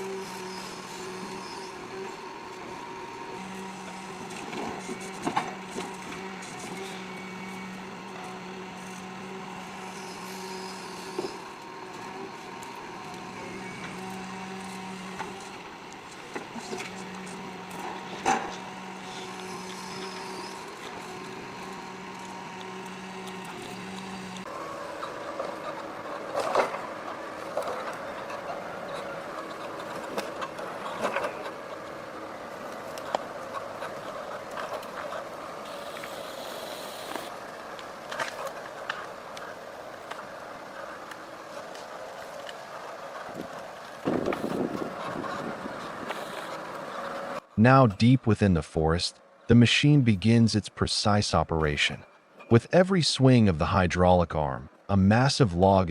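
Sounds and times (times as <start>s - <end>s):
heavy machine engine hum: 0.0s - 49.1s.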